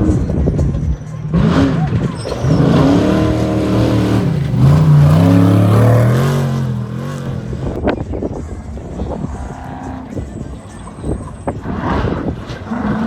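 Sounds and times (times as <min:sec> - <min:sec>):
race vehicle engine revving: 0:00.0 - 0:13.0.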